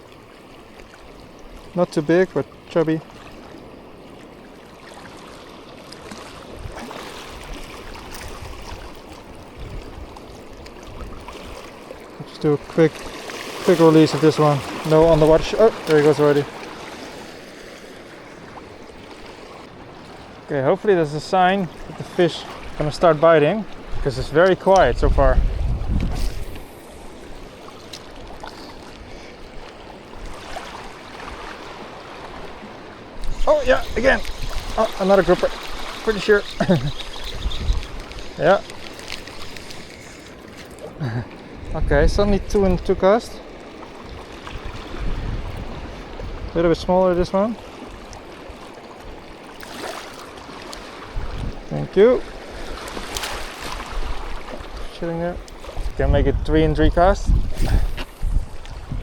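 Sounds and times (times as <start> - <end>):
shallow water lapping: 0.0 - 59.0.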